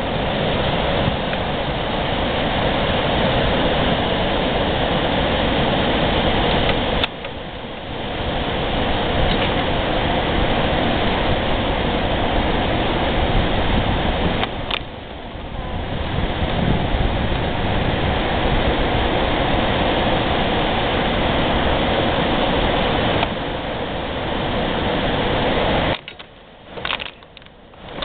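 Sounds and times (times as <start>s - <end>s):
fast river water rushing: 0.0s - 28.0s.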